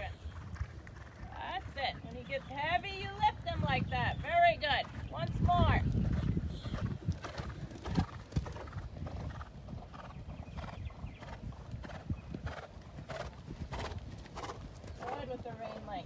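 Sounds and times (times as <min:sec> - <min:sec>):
horse hoofbeats cantering: 0:00.0 - 0:16.0.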